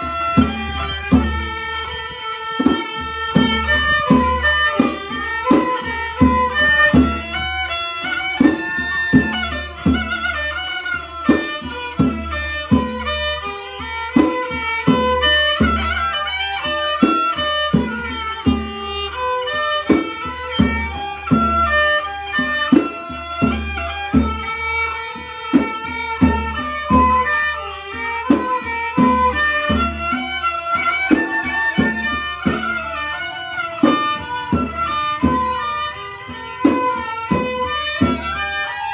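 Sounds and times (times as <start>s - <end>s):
bowed fiddle melody: 0.0s - 38.9s
steady drum beat: 0.0s - 38.9s.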